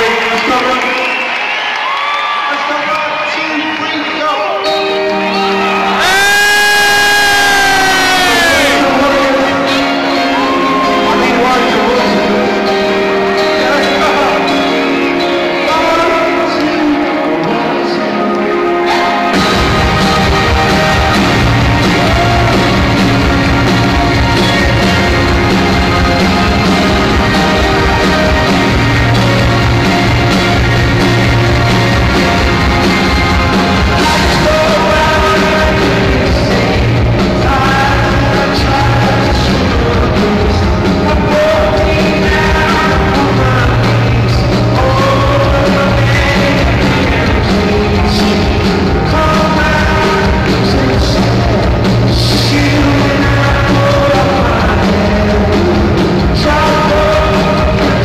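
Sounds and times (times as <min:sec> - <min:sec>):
live rock band: 0:00.0 - 0:58.0
person singing: 0:02.6 - 0:58.0.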